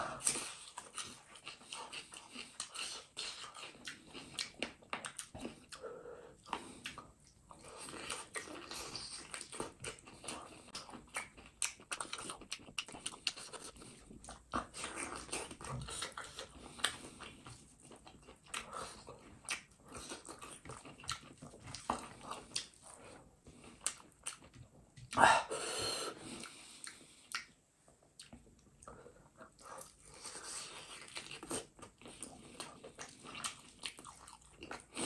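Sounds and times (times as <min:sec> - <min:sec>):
man chewing with wet smacking: 0:00.1 - 0:25.2, 0:26.1 - 0:35.0.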